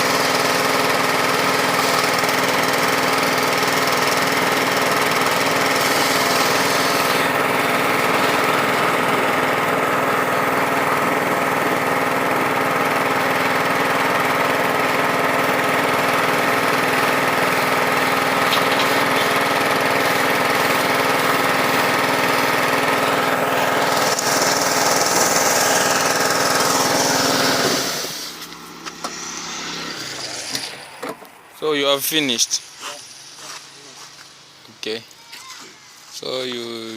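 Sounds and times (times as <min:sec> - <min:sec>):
pressure washer motor running: 0:00.0 - 0:34.7.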